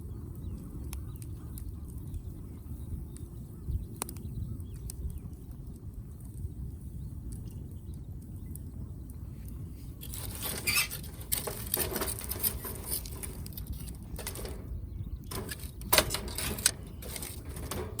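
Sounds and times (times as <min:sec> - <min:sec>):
firewood crackling and popping: 0:00.0 - 0:18.0
low steady fire rumble: 0:00.0 - 0:18.0.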